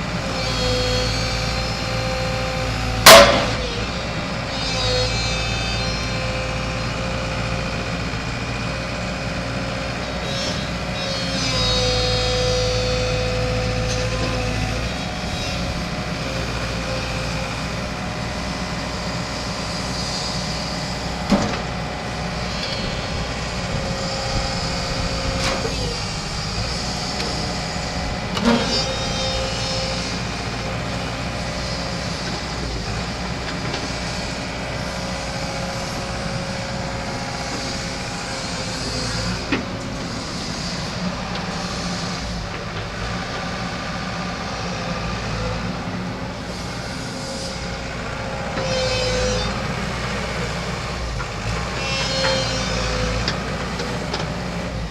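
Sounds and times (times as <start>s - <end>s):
engine whine: 0.0s - 54.9s
excavator diesel engine running: 0.0s - 54.9s.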